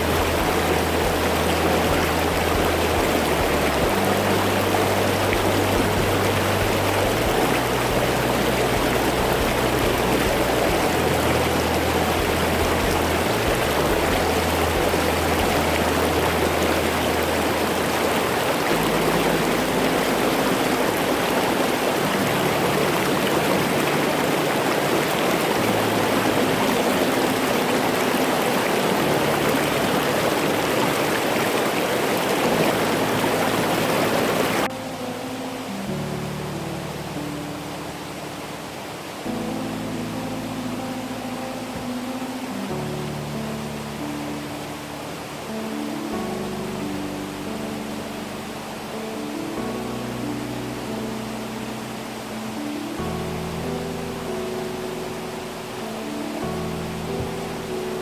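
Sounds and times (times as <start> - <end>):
low hum-like tones: 0.0 - 58.0
stream rushing over rocks: 0.0 - 58.0.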